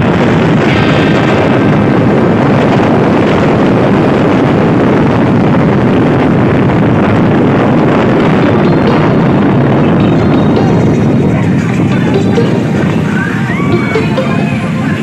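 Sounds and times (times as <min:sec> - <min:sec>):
wind rush on helmet microphone: 0:00.0 - 0:15.0.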